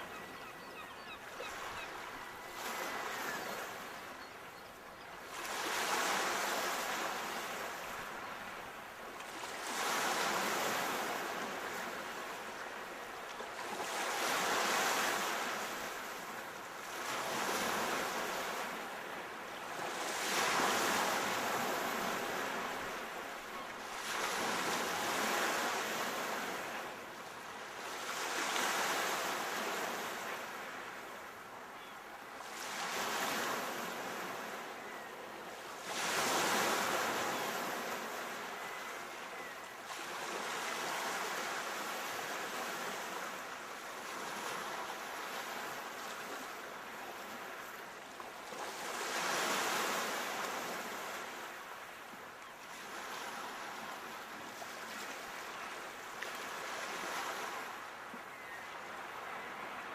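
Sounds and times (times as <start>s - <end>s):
sea waves breaking on shore: 0.0s - 4.6s, 5.2s - 31.8s, 32.4s - 59.9s.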